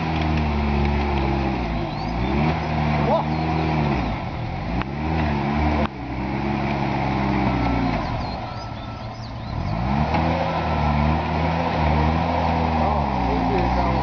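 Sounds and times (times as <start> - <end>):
diesel engine under heavy load: 0.0 - 14.0.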